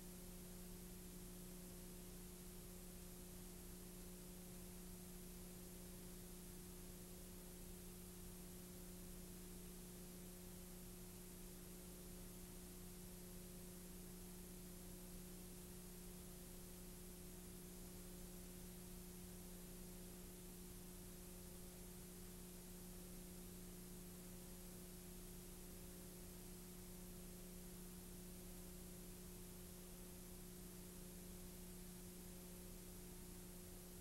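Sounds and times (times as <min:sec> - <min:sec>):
faint low hum with hiss: 0:00.0 - 0:34.0.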